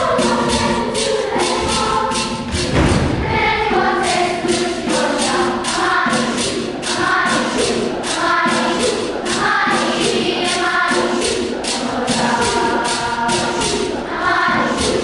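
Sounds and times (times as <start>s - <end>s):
children's choir singing: 0.0s - 15.0s
steady ticking beat: 0.0s - 15.0s.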